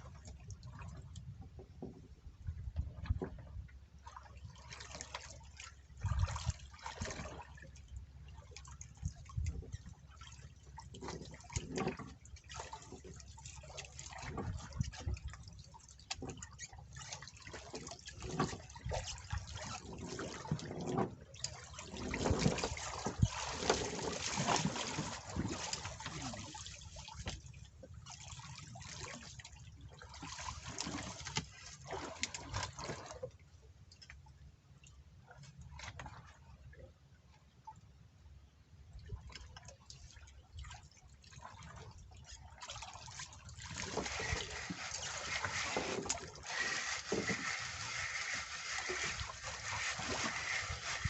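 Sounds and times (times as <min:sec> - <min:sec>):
water sloshing and splashing: 0:00.0 - 0:37.9, 0:38.9 - 0:51.0.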